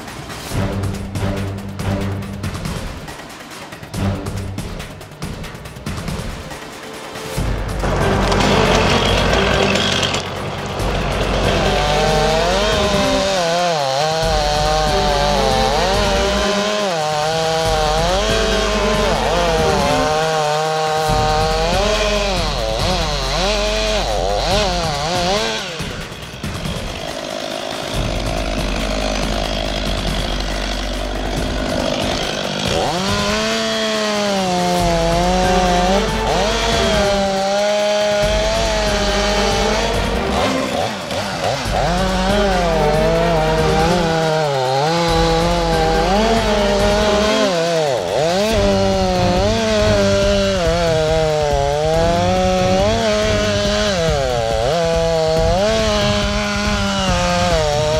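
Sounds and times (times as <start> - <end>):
chainsaw cutting tree trunk: 0.0 - 57.9.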